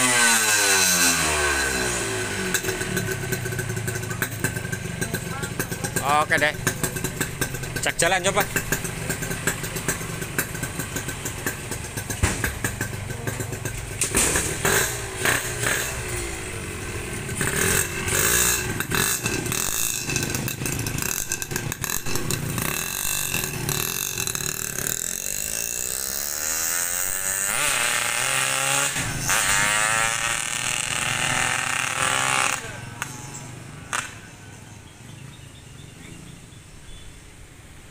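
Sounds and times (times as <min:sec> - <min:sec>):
motorcycle revving and pulling away: 0:00.0 - 0:37.9.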